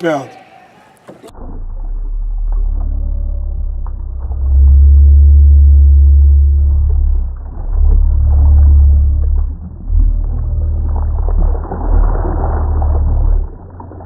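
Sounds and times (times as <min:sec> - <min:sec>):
low rumble buffeting microphone: 0:01.2 - 0:14.0.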